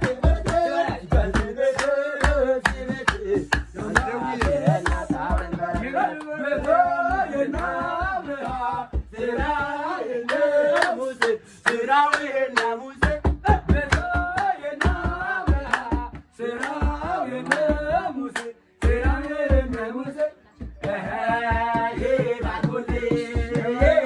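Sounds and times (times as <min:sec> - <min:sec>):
low thumping beat: 0:00.0 - 0:10.9, 0:13.0 - 0:18.2, 0:18.8 - 0:24.0
rhythmic hand clapping: 0:00.0 - 0:24.0
voices singing together: 0:00.0 - 0:24.0.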